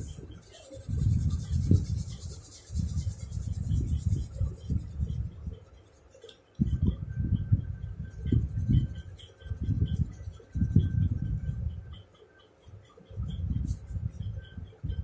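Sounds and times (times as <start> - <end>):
crayon rubbing on paper: 0.0 - 6.3, 8.2 - 11.5, 12.4 - 15.0.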